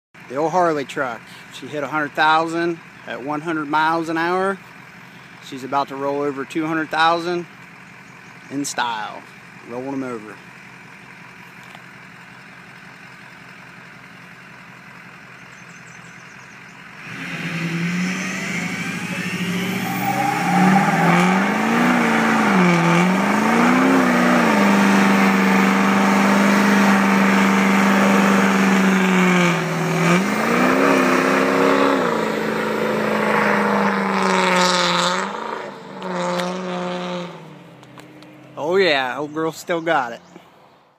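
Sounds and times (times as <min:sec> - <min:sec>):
diesel engine revving: 0:00.2 - 0:40.8.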